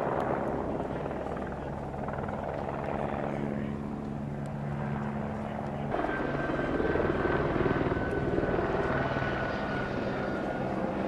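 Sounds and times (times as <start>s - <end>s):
helicopter engine and rotor: 0.0s - 11.0s
turbine whine: 0.0s - 11.0s.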